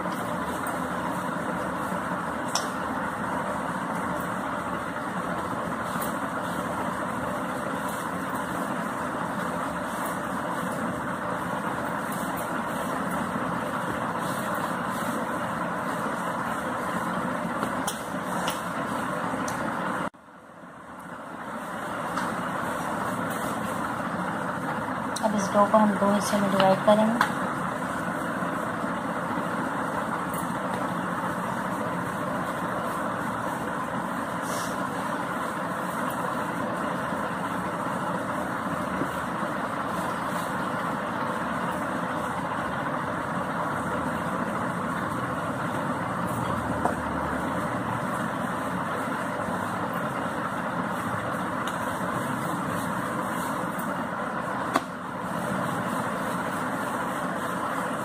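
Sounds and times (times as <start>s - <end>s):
steady mechanical drone: 0.0s - 58.0s.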